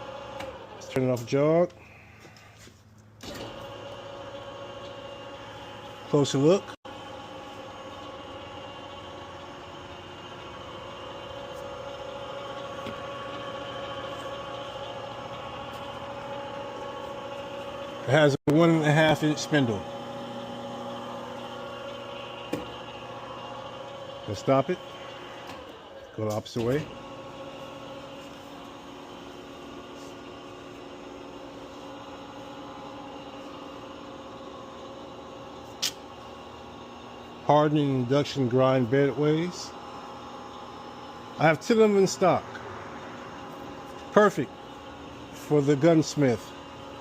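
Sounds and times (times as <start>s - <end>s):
lathe gear whine and hum: 0.0s - 47.0s.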